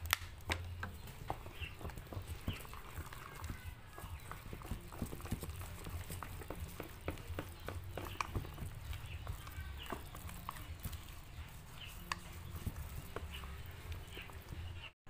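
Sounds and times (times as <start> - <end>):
spatula scraping metal bowl: 0.7 - 15.0.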